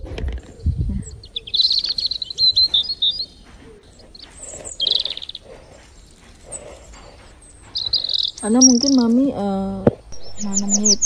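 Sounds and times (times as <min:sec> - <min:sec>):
rustling of plants: 0:00.0 - 0:11.0
small bird chirping: 0:00.4 - 0:11.0.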